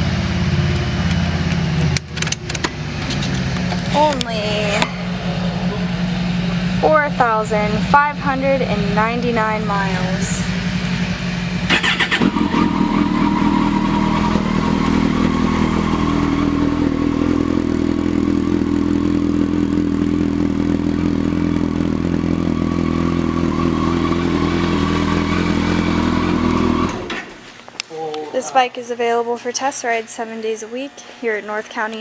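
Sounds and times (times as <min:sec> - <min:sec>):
motorcycle engine idling: 0:00.0 - 0:27.4.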